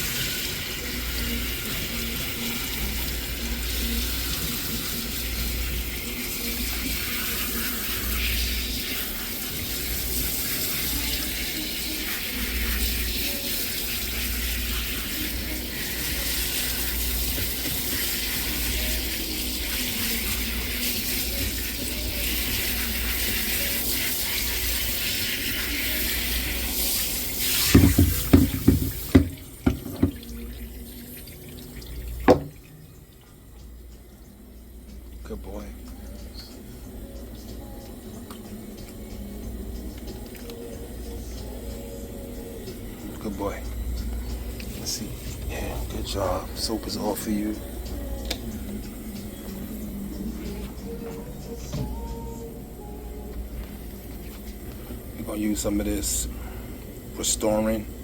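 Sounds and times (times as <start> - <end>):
water running: 0.0 - 58.0.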